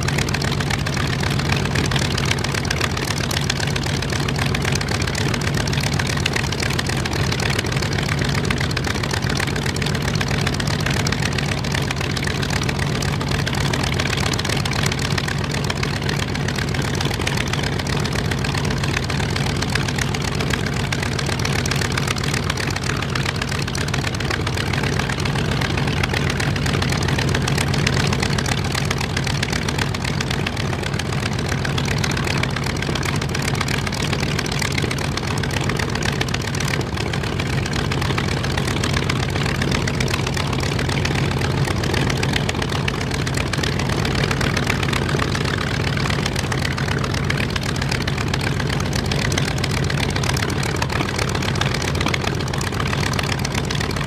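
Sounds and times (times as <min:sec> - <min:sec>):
radial aircraft engine idling: 0:00.0 - 0:54.0.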